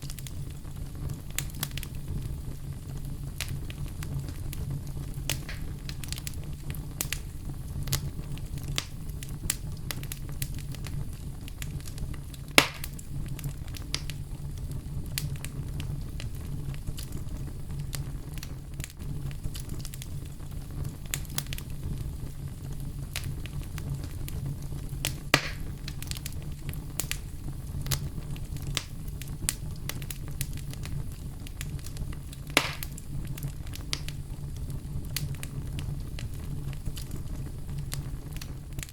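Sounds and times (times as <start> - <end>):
campfire burning: 0.0 - 38.9
fire pops: 0.0 - 38.9
wood crackles: 0.0 - 38.9.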